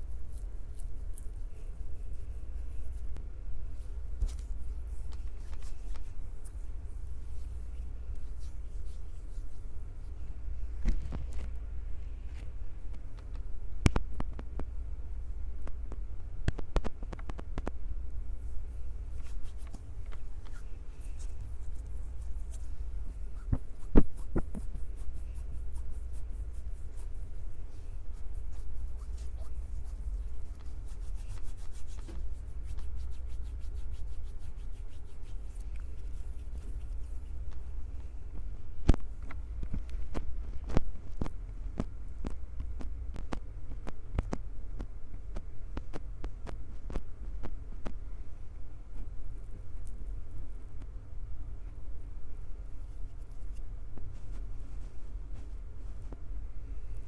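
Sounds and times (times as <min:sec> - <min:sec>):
soft clicks and rubs on microphone: 0:00.0 - 0:14.8, 0:15.6 - 0:48.0, 0:52.6 - 0:56.3.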